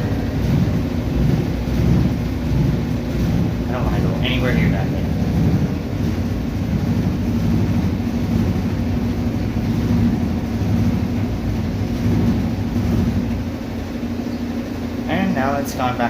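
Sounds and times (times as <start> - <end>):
washing machine rumbling drone: 0.0 - 16.0.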